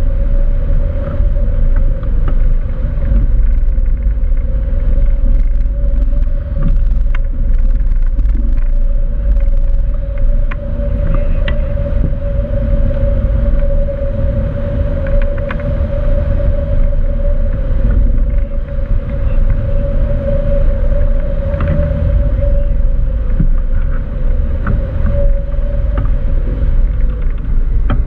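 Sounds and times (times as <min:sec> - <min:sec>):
steady hum: 0:00.0 - 0:28.0
wind buffeting microphone: 0:00.0 - 0:28.0.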